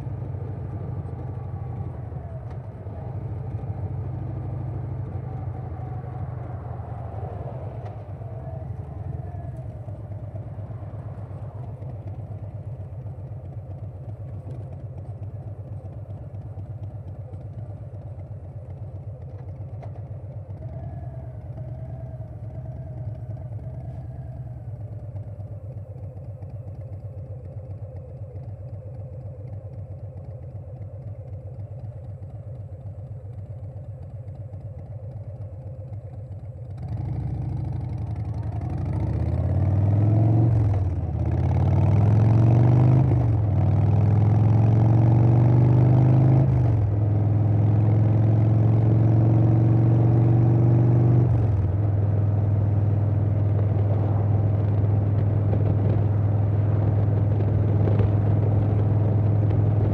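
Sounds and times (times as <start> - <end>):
motorcycle accelerating through gears: 0.0 - 59.9
motorcycle engine running: 0.0 - 59.9.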